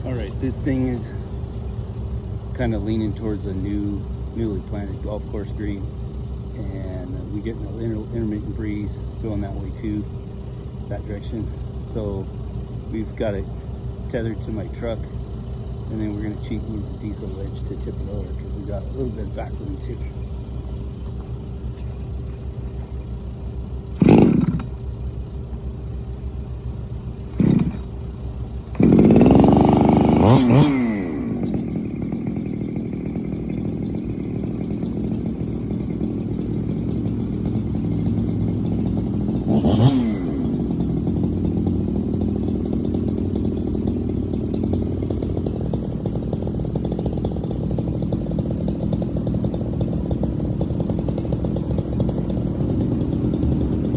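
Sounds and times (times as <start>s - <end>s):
engine machinery running: 0.0s - 53.9s.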